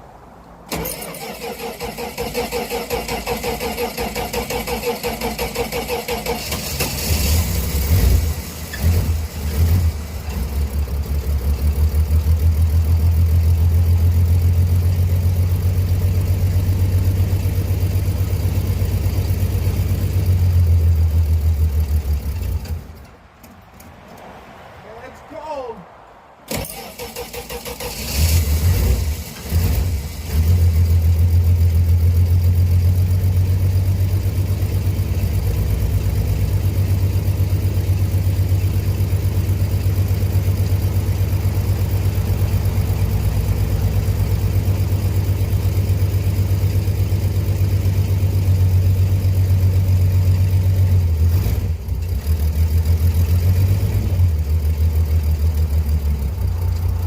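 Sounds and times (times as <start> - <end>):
car engine cold starting: 0.7 - 23.2, 26.5 - 57.0.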